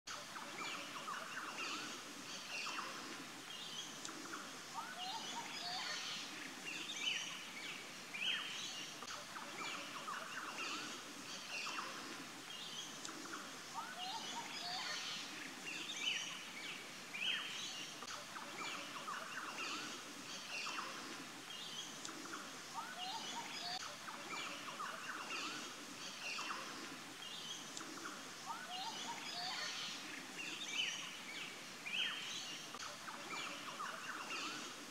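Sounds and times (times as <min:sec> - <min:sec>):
birds chirping: 0:00.3 - 0:34.9.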